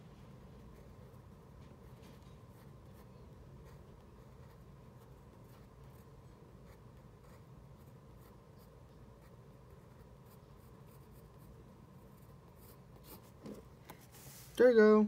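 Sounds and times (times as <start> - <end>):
low room hum: 0.0 - 15.0
pencil scratching on paper: 0.6 - 14.4.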